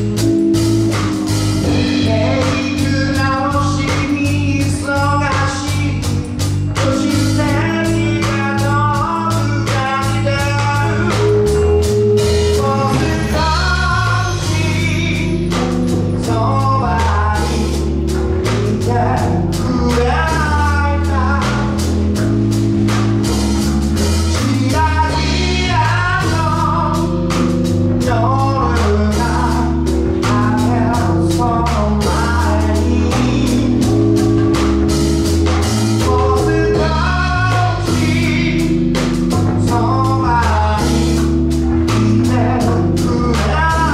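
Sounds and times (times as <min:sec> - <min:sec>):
live band playing: 0:00.0 - 0:43.9
man singing: 0:01.6 - 0:22.3, 0:24.2 - 0:34.8, 0:35.5 - 0:43.9.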